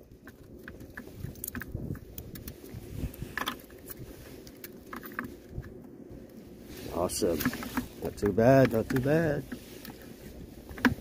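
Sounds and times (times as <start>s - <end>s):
soft clicks and rustles handling fish: 0.0s - 11.0s.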